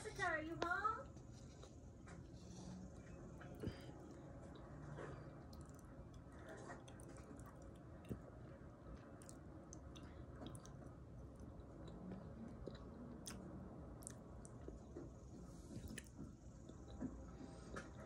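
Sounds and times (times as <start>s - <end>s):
person chewing soft food: 1.2s - 18.0s.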